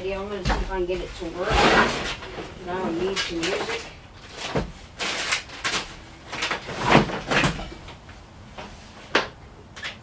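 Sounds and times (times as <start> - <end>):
objects knocking and clunking: 0.0 - 10.0.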